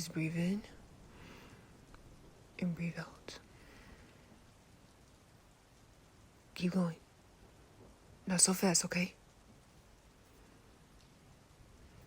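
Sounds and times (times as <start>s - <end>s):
faint rain hiss: 0.0s - 12.0s.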